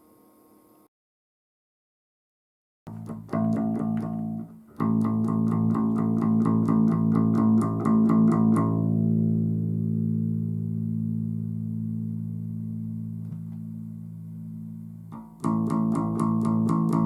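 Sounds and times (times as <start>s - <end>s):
electric bass guitar notes: 2.9s - 17.0s.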